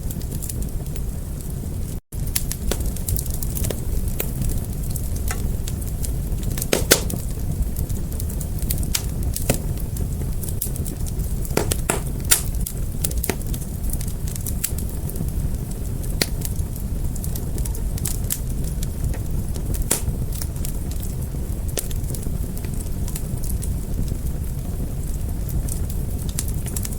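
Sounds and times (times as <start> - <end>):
fire crackling: 0.0 - 26.9.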